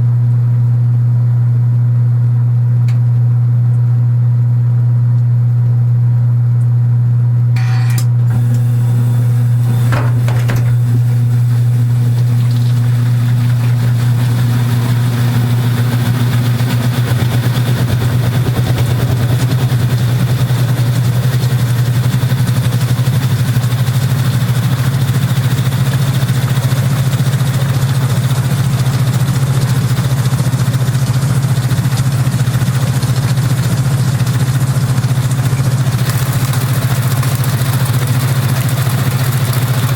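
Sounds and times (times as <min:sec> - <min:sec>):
washing machine motor hum: 0:00.0 - 0:39.9
washing machine churning: 0:07.6 - 0:39.9.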